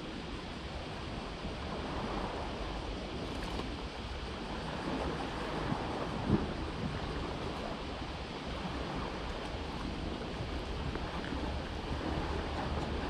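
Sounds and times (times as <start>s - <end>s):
sea water washing: 0.0s - 13.0s
wind rumbling on microphone: 0.0s - 13.0s.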